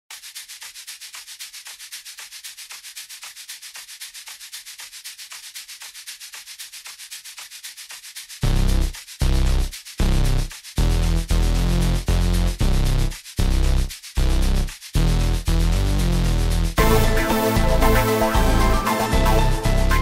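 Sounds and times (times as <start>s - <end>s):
synthesized hi-hat pulses: 0.1s - 20.0s.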